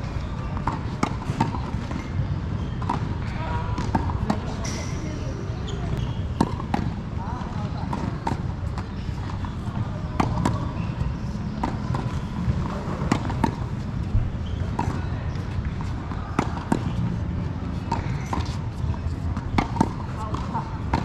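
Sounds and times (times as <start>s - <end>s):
tennis balls hit and bouncing: 0.0s - 21.0s.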